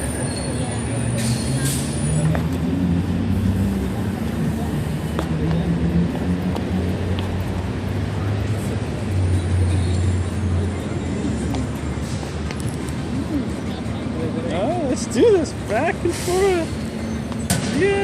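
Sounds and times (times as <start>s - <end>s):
engine hum: 0.0s - 18.0s
murmur of distant voices: 0.0s - 18.0s
street traffic rumble: 0.0s - 18.0s.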